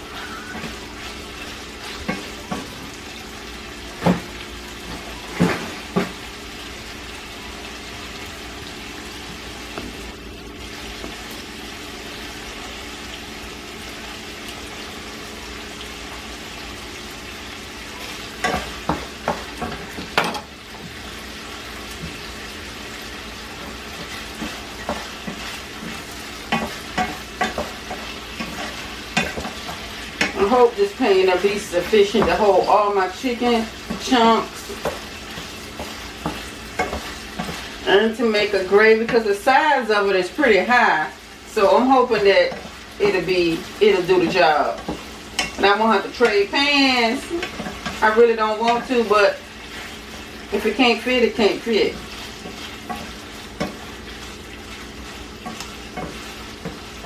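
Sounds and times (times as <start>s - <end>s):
chicken sizzling in a pan: 0.0s - 57.0s.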